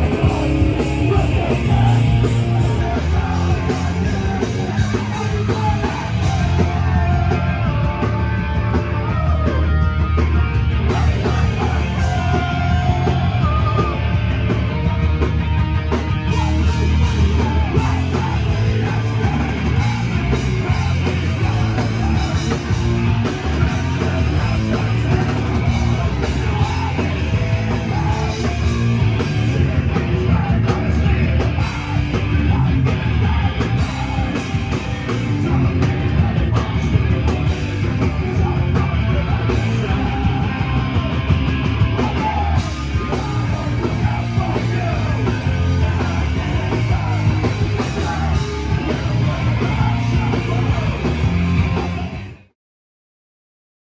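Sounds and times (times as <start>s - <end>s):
shouted vocals: 0.0s - 52.3s
punk band playing live: 0.0s - 52.6s.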